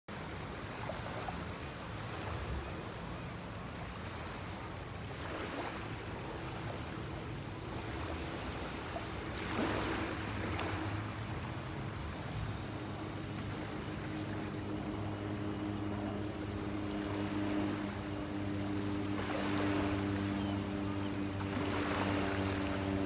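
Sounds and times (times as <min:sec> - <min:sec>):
small waves lapping on sand: 0:00.1 - 0:23.0.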